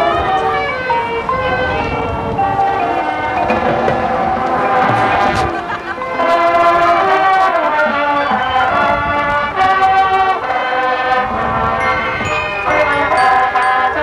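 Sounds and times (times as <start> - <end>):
marching band playing chords: 1.0 - 14.0.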